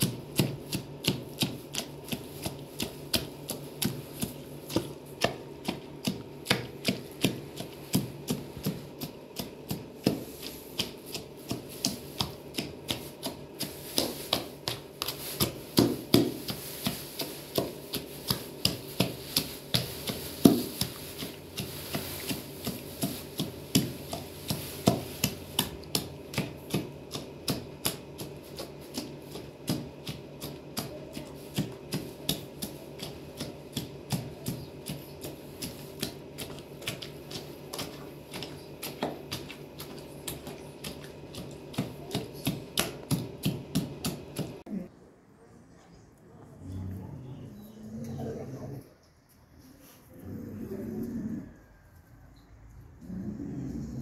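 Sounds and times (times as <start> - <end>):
pounder crushing fruit in basin: 0.0 - 44.7.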